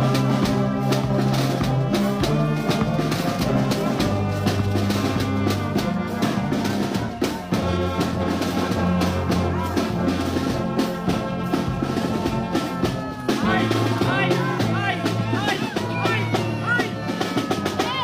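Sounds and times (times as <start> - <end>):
brass band playing: 0.0 - 18.0
drum strikes: 0.0 - 18.0.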